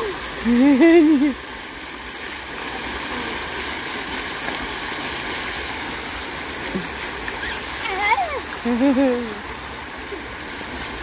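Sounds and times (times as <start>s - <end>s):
fountain jets spraying water: 0.0s - 11.0s.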